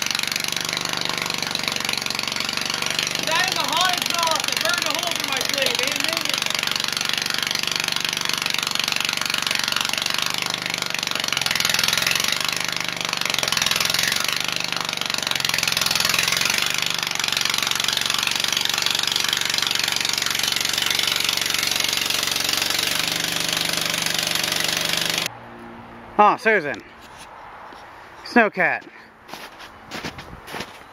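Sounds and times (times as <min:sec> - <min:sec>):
garden tractor engine running: 0:00.0 - 0:25.3.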